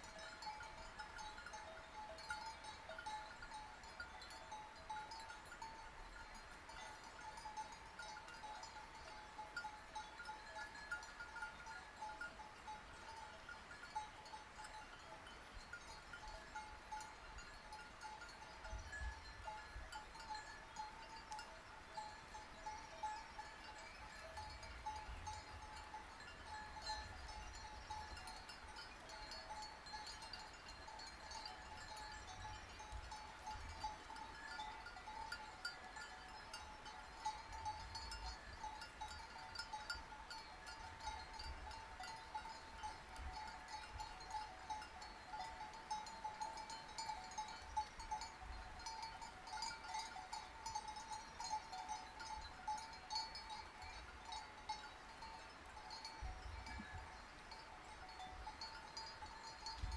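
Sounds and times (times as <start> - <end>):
sheep bells ringing: 0.0 - 59.9.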